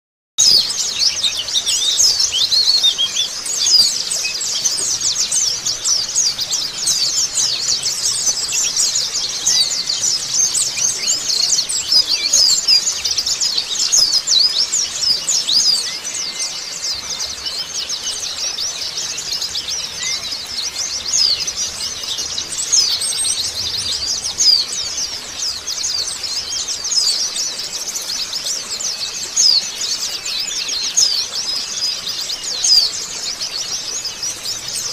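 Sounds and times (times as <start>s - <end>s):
birds twittering rapidly: 0.4s - 34.9s.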